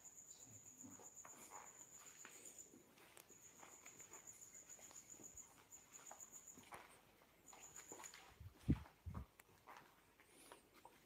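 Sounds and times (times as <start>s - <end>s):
soft footsteps on hard floor: 1.2s - 11.0s.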